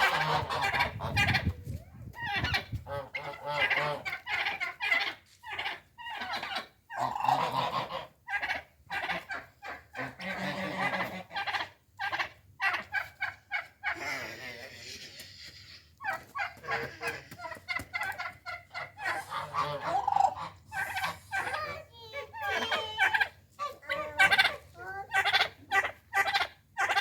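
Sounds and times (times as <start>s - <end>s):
poultry calling: 0.0s - 27.0s.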